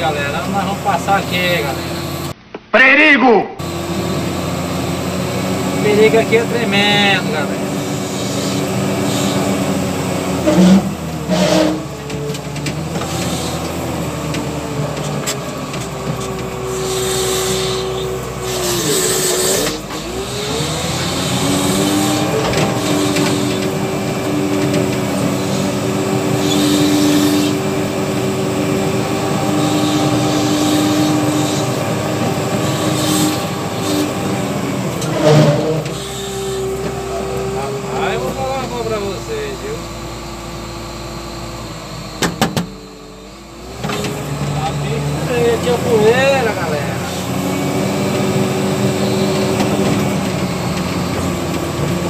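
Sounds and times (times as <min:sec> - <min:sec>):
wheel loader diesel engine: 0:00.0 - 0:02.4, 0:03.6 - 0:52.0.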